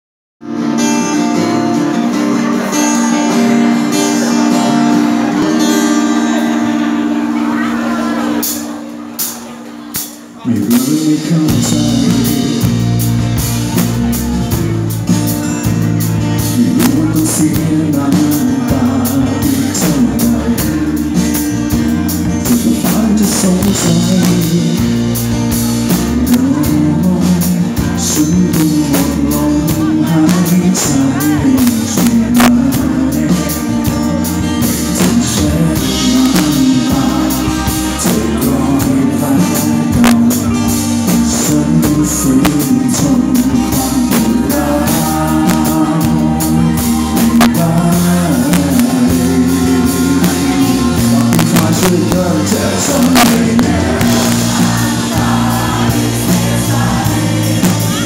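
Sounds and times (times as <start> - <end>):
acoustic and electric guitars: 0.4 - 58.0
drum kit with cymbals: 8.2 - 58.0
lead vocal singing: 10.4 - 15.1, 16.0 - 58.0.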